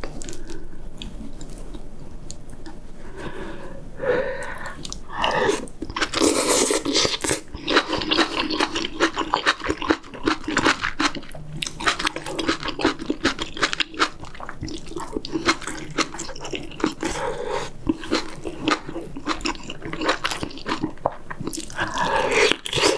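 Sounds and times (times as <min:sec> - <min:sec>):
wet chewing: 0:04.4 - 0:22.9.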